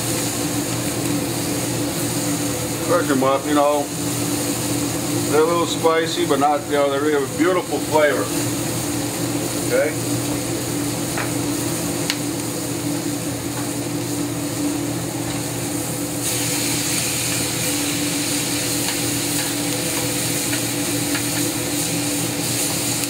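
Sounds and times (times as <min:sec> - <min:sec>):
food sizzling in a skillet: 0:00.0 - 0:23.0
vent hood fan hum: 0:00.0 - 0:23.0.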